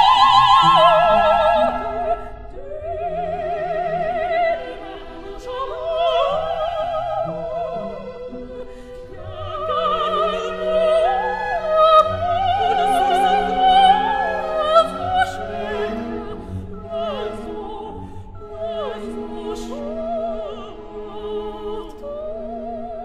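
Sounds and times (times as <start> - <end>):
operatic singing: 0.0 - 23.0
orchestral accompaniment: 0.0 - 23.0.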